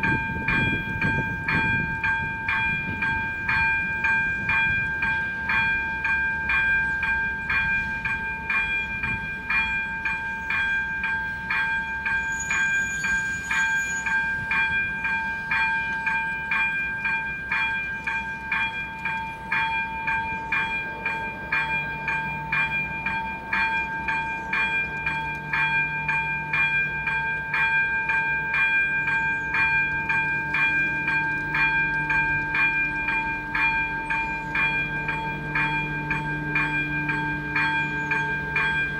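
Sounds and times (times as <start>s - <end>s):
diesel train drone: 0.0s - 38.9s
level-crossing bell striking: 0.0s - 38.9s.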